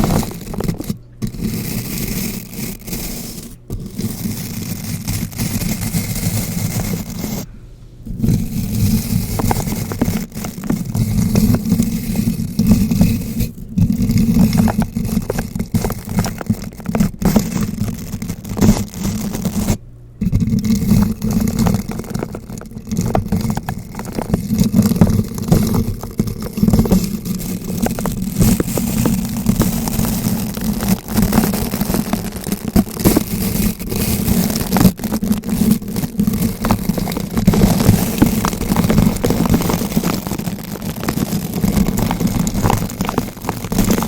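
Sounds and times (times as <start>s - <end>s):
brush scratching against microphone: 0.0s - 7.5s, 8.1s - 44.0s
low rumble from mic contact: 3.3s - 44.0s.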